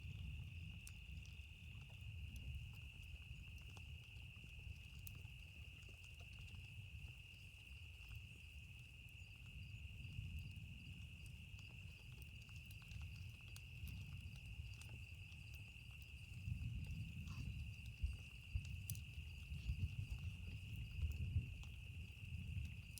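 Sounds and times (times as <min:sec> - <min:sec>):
campfire crackling: 0:00.0 - 0:22.9
night insects chirring: 0:00.0 - 0:22.9.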